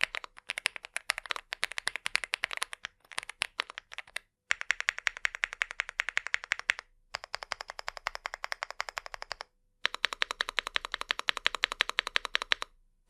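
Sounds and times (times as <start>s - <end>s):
typing on a keyboard: 0.0s - 12.7s.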